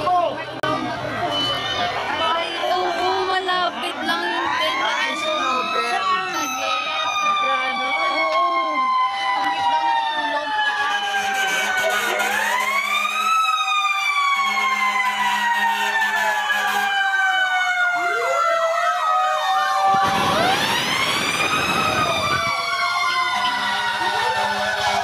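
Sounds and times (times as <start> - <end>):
fire truck sirens wailing: 0.0 - 25.0.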